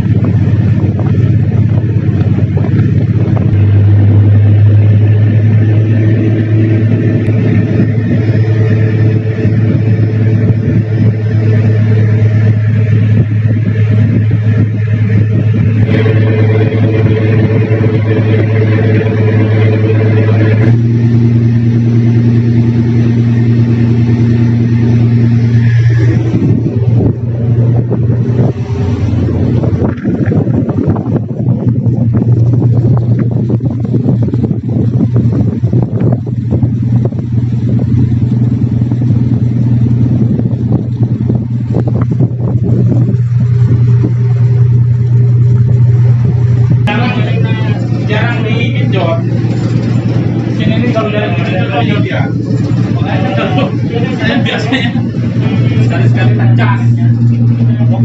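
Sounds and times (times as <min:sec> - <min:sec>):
diesel boat engine at high revs: 0:00.0 - 0:58.0.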